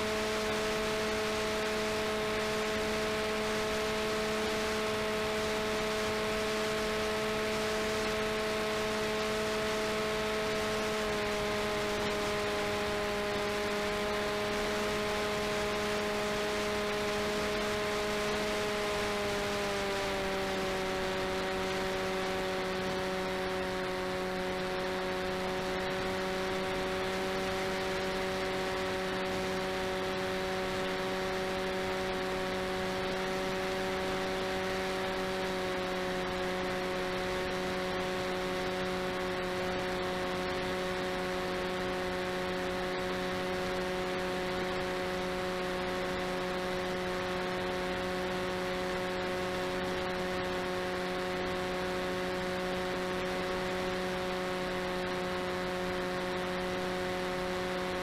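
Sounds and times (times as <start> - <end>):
electric motor whine: 0.0 - 58.0.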